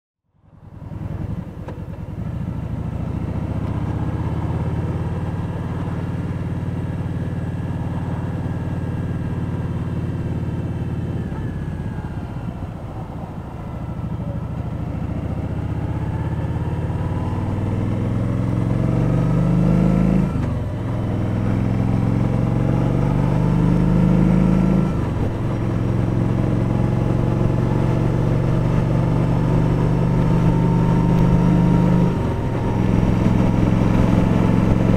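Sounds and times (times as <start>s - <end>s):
motorcycle engine running: 0.3s - 34.9s.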